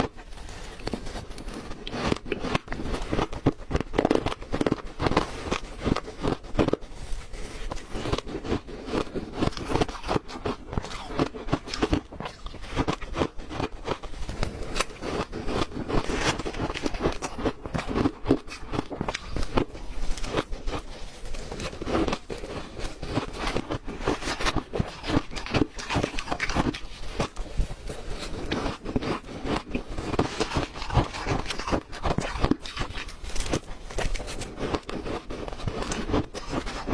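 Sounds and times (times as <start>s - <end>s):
ice being chewed and crunched: 0.0s - 36.9s.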